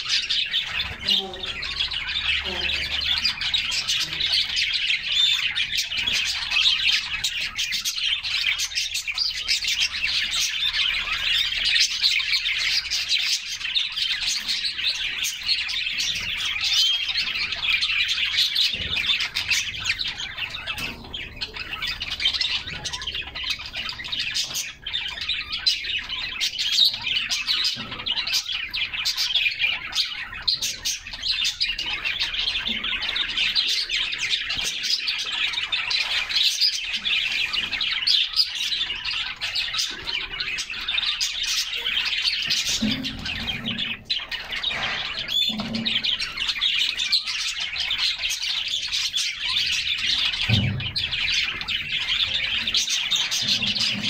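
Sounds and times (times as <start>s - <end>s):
canaries chirping and singing: 0.0s - 54.0s.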